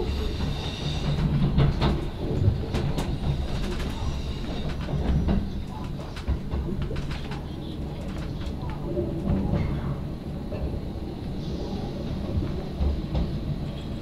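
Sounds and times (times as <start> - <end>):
rail clicks and knocks: 0.0 - 14.0
train running rumble: 0.0 - 14.0.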